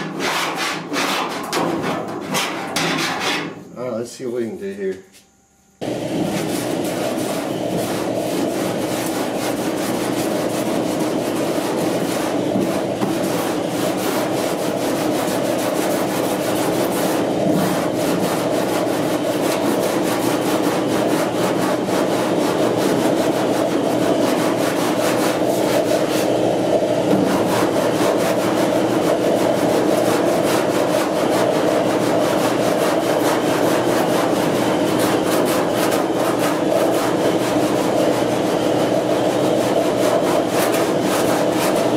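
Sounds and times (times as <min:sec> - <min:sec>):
file rasping on body filler: 0:06.4 - 0:26.3, 0:27.2 - 0:41.9.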